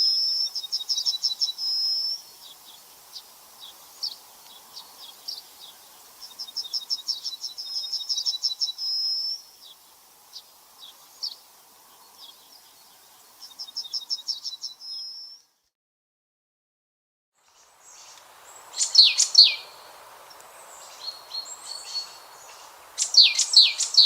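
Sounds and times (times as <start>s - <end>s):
songbird singing: 0.0s - 15.7s, 17.4s - 24.0s.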